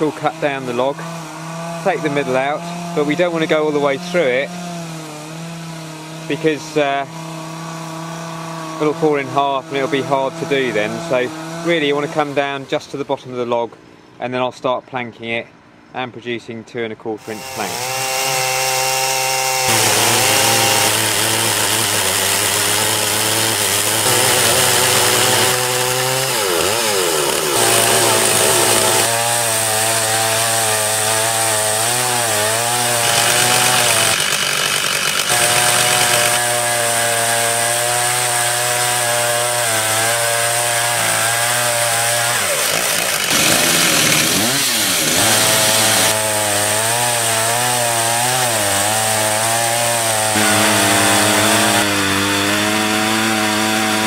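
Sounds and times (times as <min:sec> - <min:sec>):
chainsaw at full throttle cutting: 0:00.0 - 0:12.5, 0:17.2 - 0:54.0.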